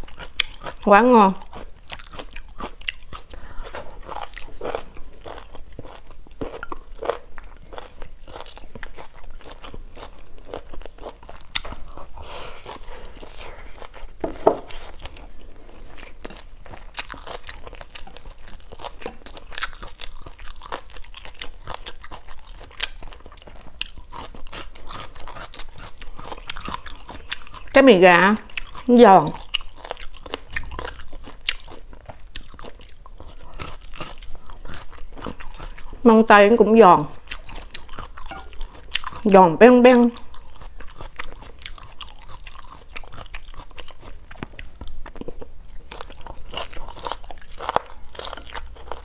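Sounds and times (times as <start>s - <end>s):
crunchy chewing: 0.0s - 27.8s, 28.4s - 36.1s, 37.0s - 39.3s, 40.2s - 49.0s.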